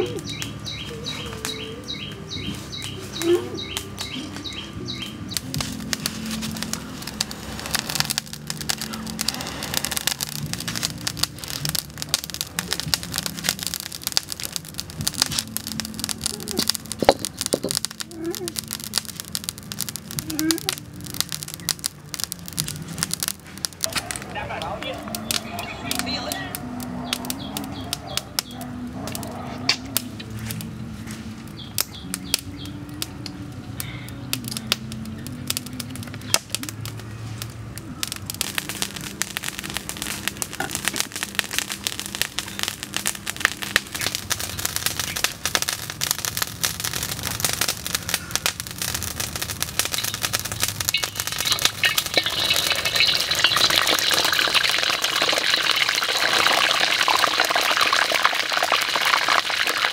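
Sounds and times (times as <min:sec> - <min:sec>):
deep-frying sizzle with crackles: 0:00.0 - 0:59.9.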